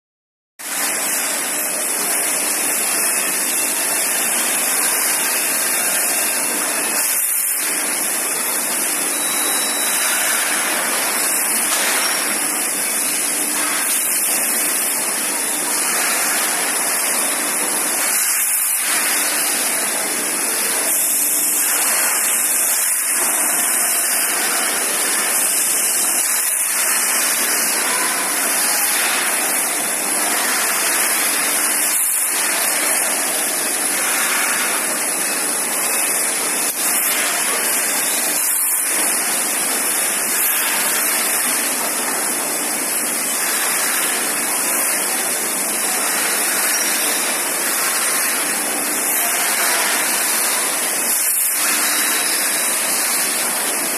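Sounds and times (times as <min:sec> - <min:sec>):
factory machinery rushing hum: 0:00.7 - 0:53.9.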